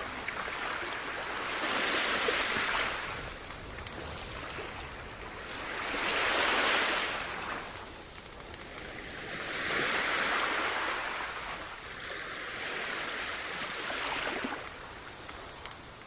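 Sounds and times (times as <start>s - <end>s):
light crackles over wash: 0.0s - 16.0s
sea waves washing onto shore: 0.0s - 16.0s.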